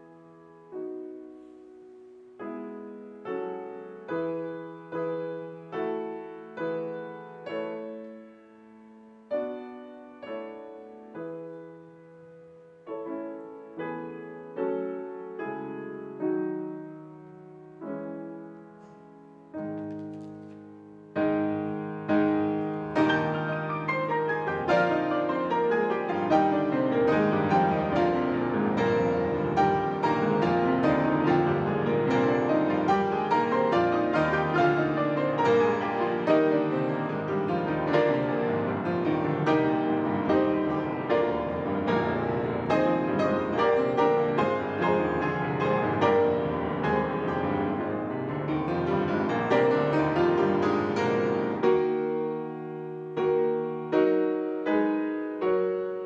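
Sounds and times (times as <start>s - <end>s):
two pianos playing classical: 0.0s - 56.0s.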